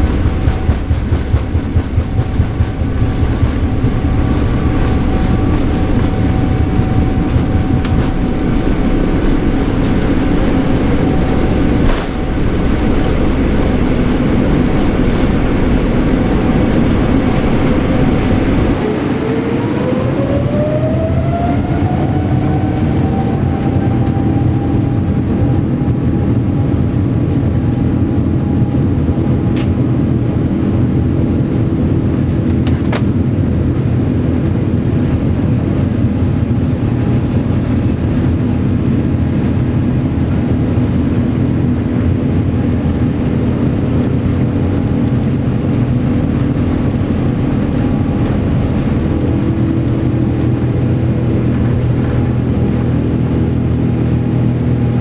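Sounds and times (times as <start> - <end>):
engine and rolling noise: 0.0 - 55.0
jet engine whine: 0.0 - 55.0.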